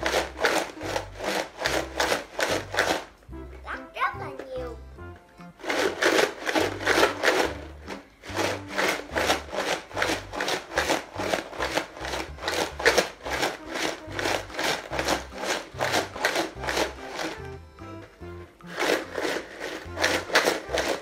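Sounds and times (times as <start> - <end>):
ice rattling in shaken jar: 0.0 - 3.1, 5.6 - 17.4, 18.6 - 21.0.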